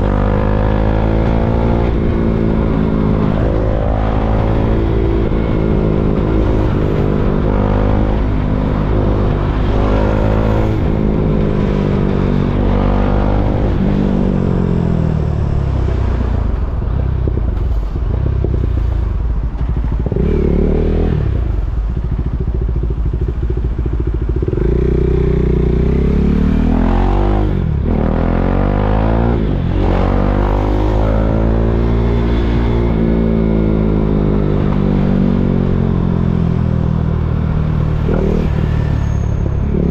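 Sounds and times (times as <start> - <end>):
motorcycle engine revving and gear changes: 0.0 - 39.9.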